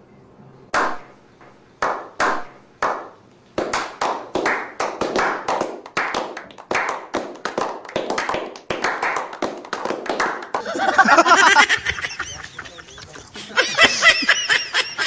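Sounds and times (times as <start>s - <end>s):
group clapping: 0.7s - 1.0s, 1.8s - 15.0s.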